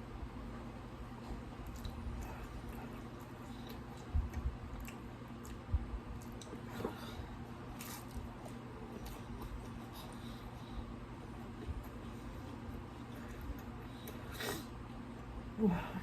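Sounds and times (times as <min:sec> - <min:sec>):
person chewing food: 0:01.1 - 0:15.3.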